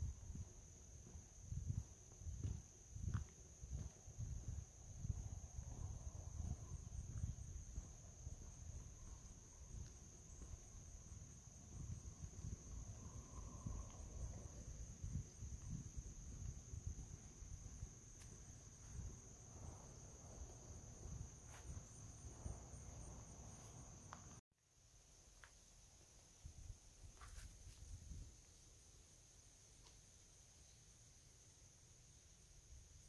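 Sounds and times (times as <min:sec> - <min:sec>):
crickets trilling: 0:00.0 - 0:24.4, 0:25.3 - 0:33.0.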